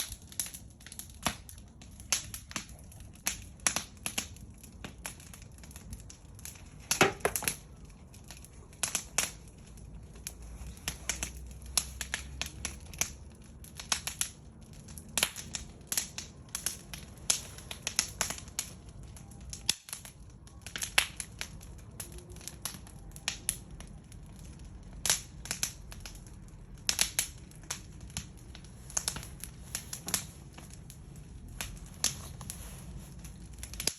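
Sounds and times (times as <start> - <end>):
low steady rumble: 0.0 - 33.9
wood fire crackling: 0.0 - 33.9.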